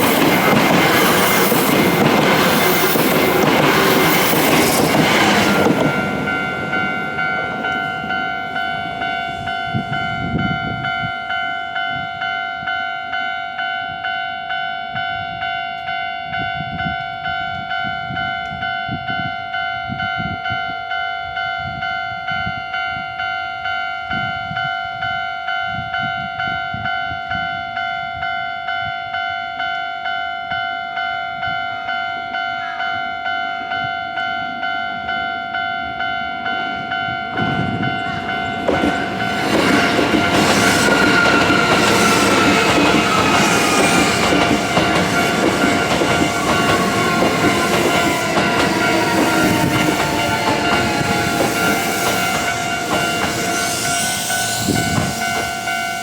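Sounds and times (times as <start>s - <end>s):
passing train: 0.0s - 56.0s.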